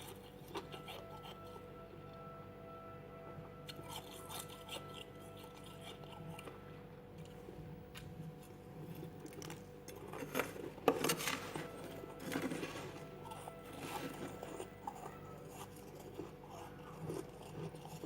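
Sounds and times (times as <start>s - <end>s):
crunching frost being chewed: 0.0s - 2.2s, 3.5s - 18.0s.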